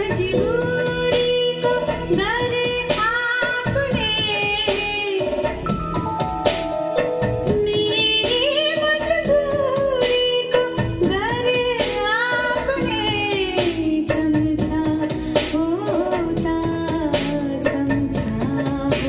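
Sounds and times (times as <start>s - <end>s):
song with singing voice: 0.0s - 19.0s.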